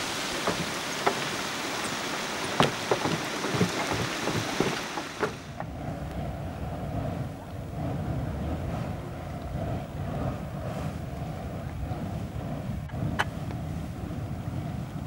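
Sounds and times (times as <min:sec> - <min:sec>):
boiling water bubbling and hissing: 0:00.0 - 0:15.0
steam vent rushing: 0:00.0 - 0:15.0.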